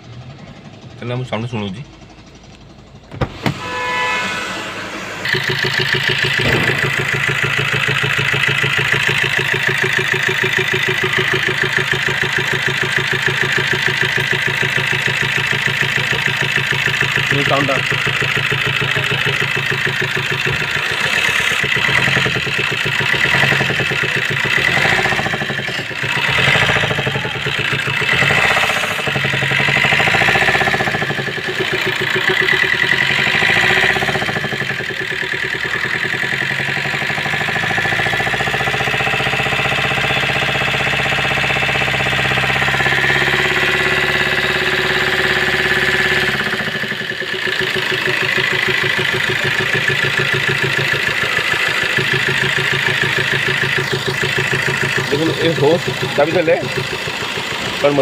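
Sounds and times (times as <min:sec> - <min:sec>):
diesel engine clattering: 0:00.0 - 0:04.4, 0:05.2 - 0:58.0.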